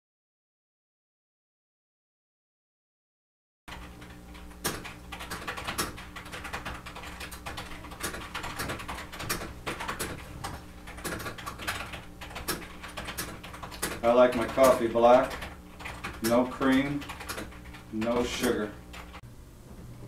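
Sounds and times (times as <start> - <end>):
steady low hum: 3.7 - 20.0.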